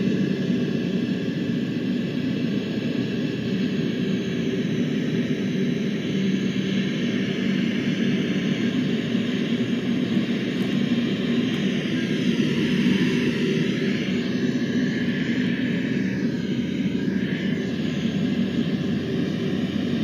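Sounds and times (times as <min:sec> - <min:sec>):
aircraft engine drone: 0:00.0 - 0:20.0.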